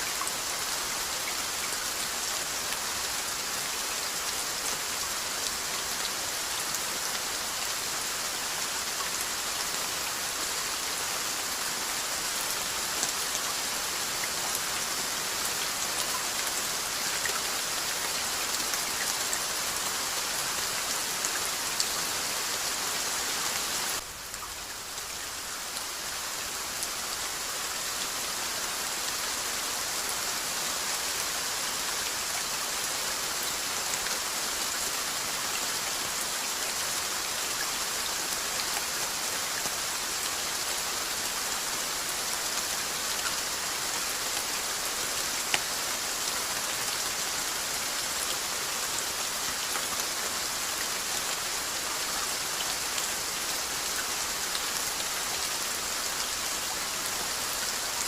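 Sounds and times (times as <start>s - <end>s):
rain hissing on a surface: 0.0s - 58.0s.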